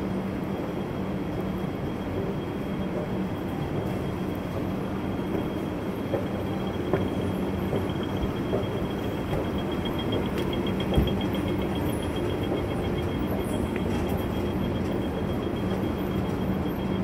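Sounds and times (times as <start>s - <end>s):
machinery hum and rumble: 0.0s - 17.0s.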